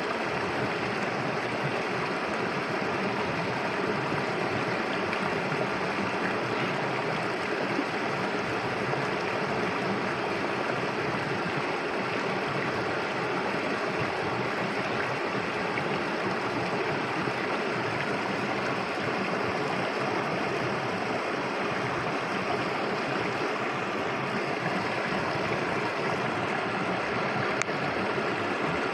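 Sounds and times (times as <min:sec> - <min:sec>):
shallow stream flowing: 0:00.0 - 0:28.9.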